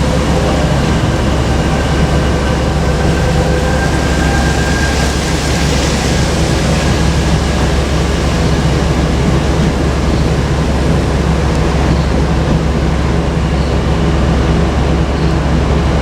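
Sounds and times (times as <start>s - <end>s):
electric train rumbling: 0.0s - 16.0s
low hum: 0.0s - 16.0s.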